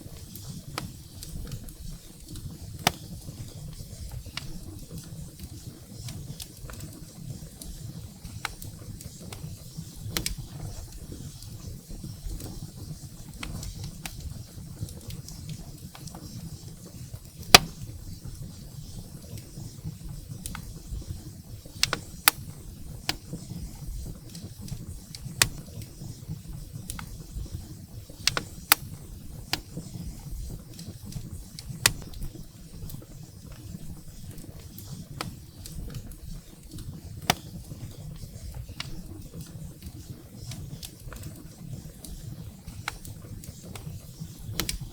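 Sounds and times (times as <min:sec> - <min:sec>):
firewood crackles and pops: 0:00.0 - 0:44.9.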